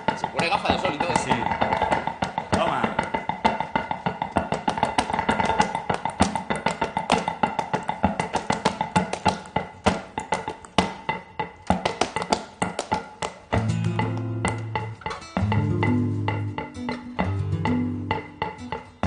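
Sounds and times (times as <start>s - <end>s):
fast percussive taps: 0.0s - 19.0s
flamenco guitar: 0.0s - 19.0s.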